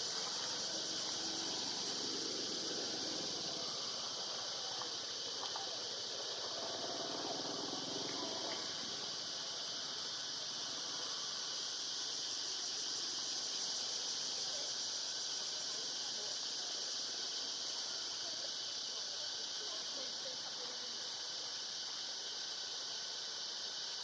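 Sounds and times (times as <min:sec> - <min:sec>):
insects droning in chorus: 0:00.0 - 0:24.0.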